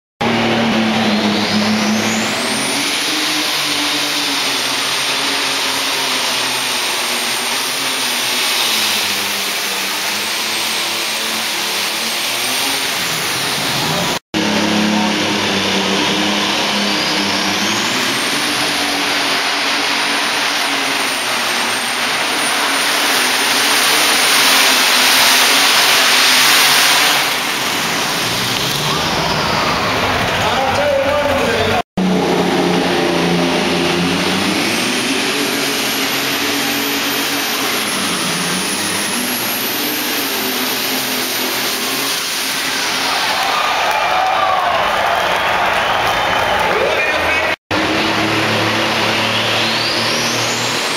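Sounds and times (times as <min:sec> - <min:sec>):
high engine whine: 0:00.2 - 0:50.9
tractor engines at full throttle: 0:00.2 - 0:50.9.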